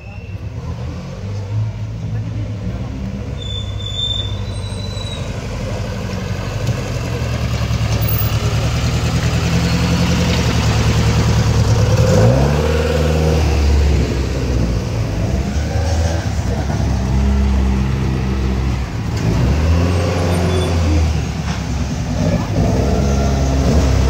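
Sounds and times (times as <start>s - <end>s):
rally car engine revving: 0.3s - 24.0s.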